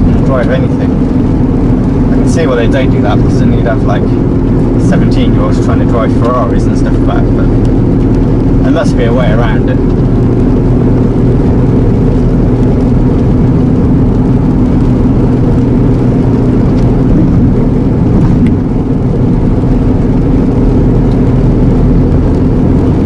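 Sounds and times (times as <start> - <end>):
diesel truck engine drone: 0.0 - 23.0
road noise: 0.0 - 23.0.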